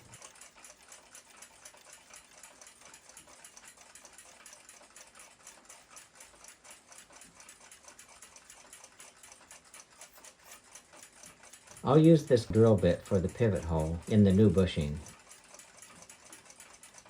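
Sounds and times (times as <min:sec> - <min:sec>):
rapid mechanical ticking: 0:00.0 - 0:17.0.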